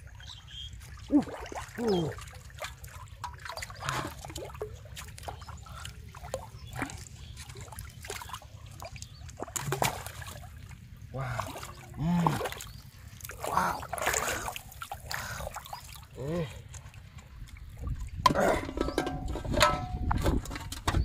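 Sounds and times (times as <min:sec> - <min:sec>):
water dripping: 0:00.0 - 0:18.2
fish thrashing and splashing: 0:00.1 - 0:18.2.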